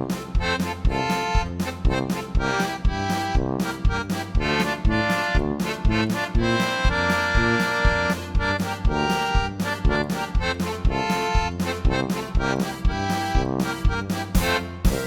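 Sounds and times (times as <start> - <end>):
accordion music with bouncy beat: 0.0 - 15.0.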